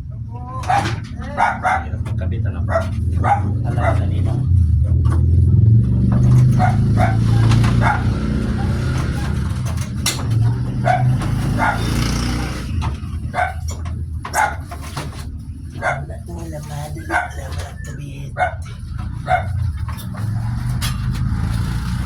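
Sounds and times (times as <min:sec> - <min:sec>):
dog barking: 0:00.5 - 0:04.7, 0:06.0 - 0:20.7.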